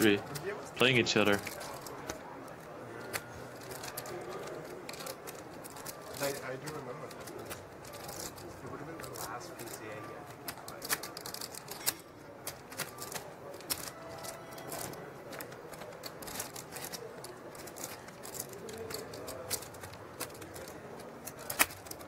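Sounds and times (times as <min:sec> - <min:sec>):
low room murmur: 0:00.0 - 0:22.0
poker chips clicking: 0:00.0 - 0:22.0.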